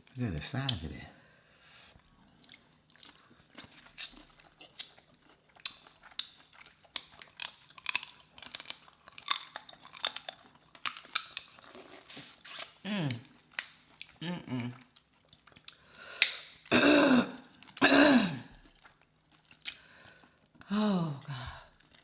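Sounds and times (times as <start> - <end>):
wet chewing with crackly clicks: 2.0 - 16.7, 17.4 - 17.8, 18.4 - 20.7, 21.5 - 22.0.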